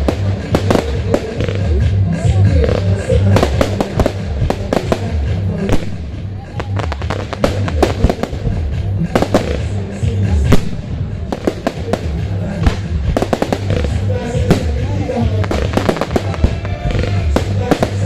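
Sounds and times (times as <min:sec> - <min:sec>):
fireworks bangs: 0:00.0 - 0:18.0
music with pulsing bass: 0:00.0 - 0:18.0.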